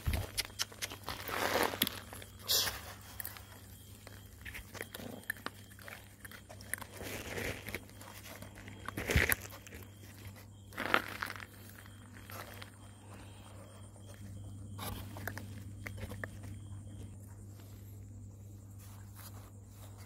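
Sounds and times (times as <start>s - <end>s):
puppies crunching food: 0.0s - 17.4s.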